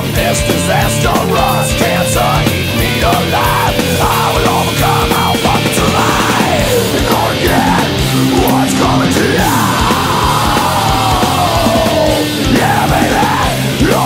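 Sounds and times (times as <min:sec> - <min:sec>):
fast drumming: 0:00.0 - 0:14.0
heavy metal song: 0:00.0 - 0:14.0.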